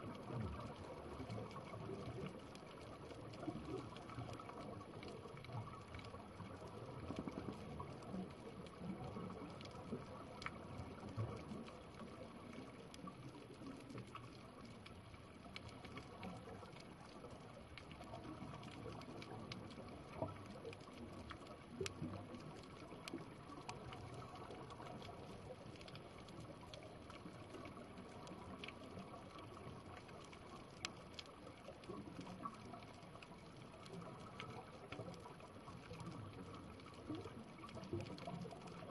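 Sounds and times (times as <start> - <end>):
faint underwater wash: 0.0 - 38.9
sharp underwater clicks: 0.1 - 38.9.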